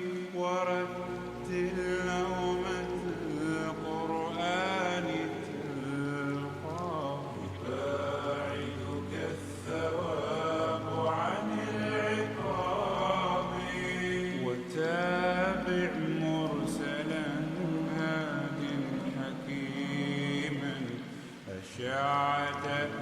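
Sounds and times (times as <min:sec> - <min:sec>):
man singing a cappella: 0:00.0 - 0:23.0.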